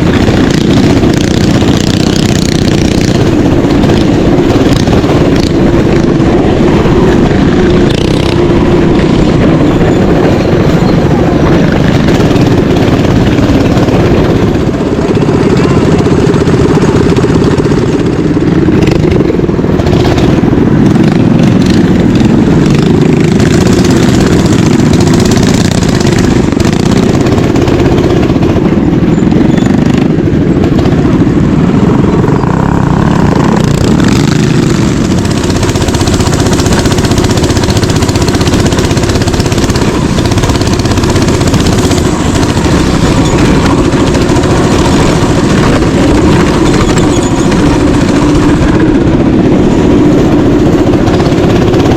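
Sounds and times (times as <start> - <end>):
mini bike engine running: 0.0 - 51.9.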